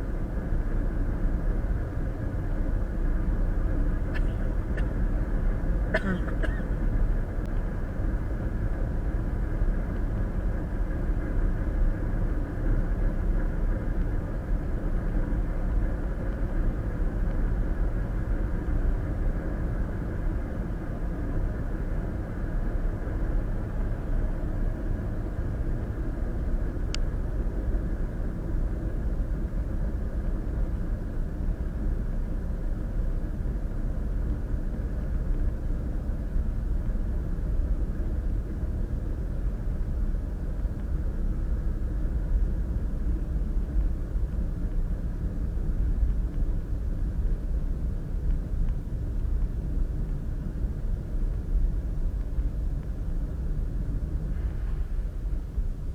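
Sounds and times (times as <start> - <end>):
road and tyre noise in car: 0.0 - 55.9.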